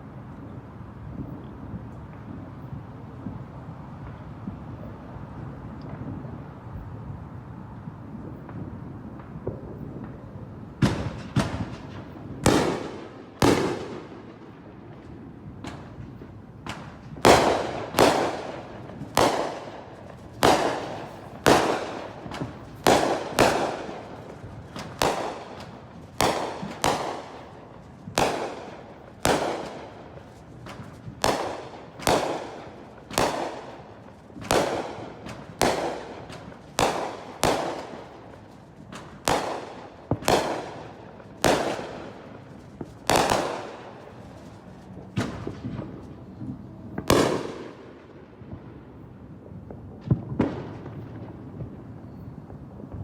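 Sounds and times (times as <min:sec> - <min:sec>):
fireworks banging: 0:08.2 - 0:53.0.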